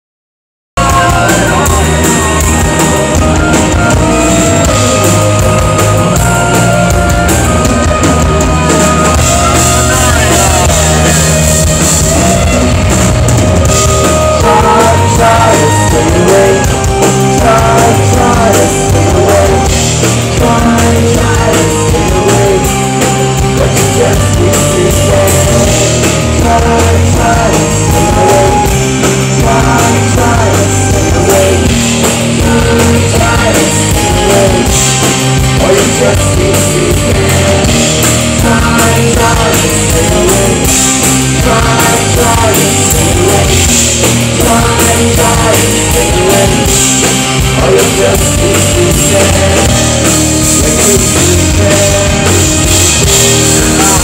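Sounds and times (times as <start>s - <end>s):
live rock band playing: 0.8s - 54.0s
person singing: 0.8s - 54.0s.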